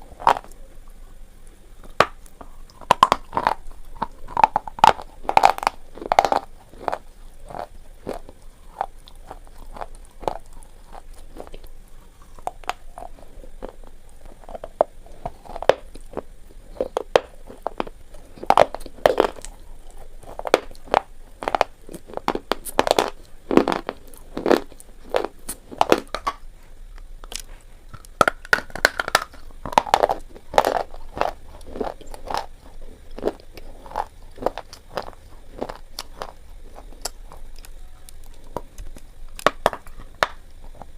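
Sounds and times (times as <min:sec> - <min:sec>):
slate pencils being chewed: 0:00.0 - 0:01.0, 0:01.8 - 0:40.9.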